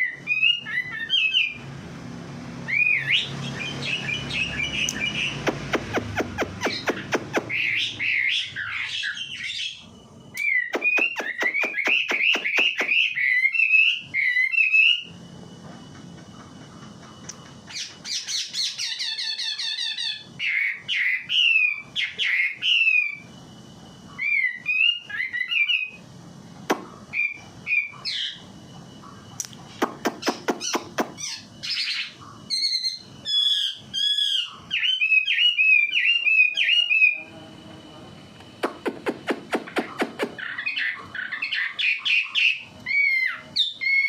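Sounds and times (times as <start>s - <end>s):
songbird whistling and warbling: 0.0s - 1.6s, 2.6s - 15.2s, 17.7s - 23.3s, 24.1s - 26.1s, 26.7s - 28.5s, 30.0s - 37.3s, 38.6s - 44.0s.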